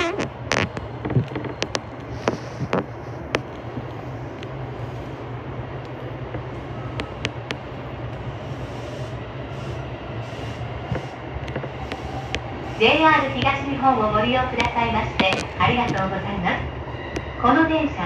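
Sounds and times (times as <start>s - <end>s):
train car hum and rumble: 0.0s - 18.0s.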